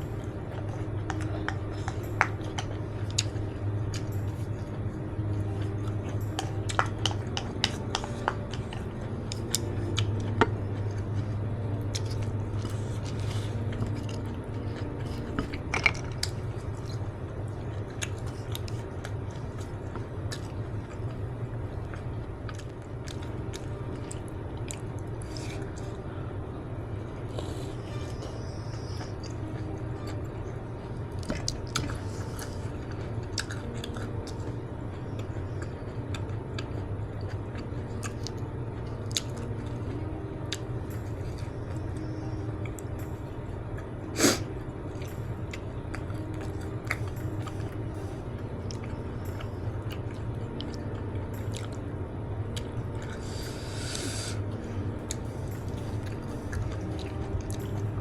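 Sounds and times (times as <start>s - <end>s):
low hum: 0.0s - 58.0s
person chewing with wet mouth sounds: 0.0s - 58.0s.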